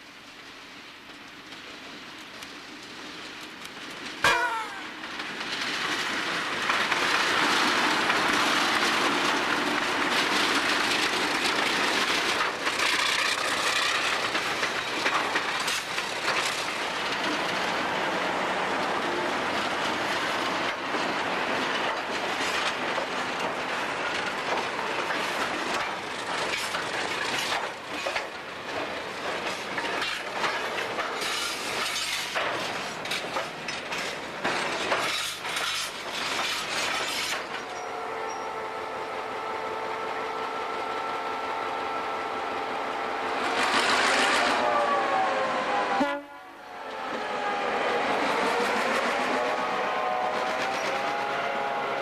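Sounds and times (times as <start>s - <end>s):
train wheels on rails: 0.0s - 52.0s.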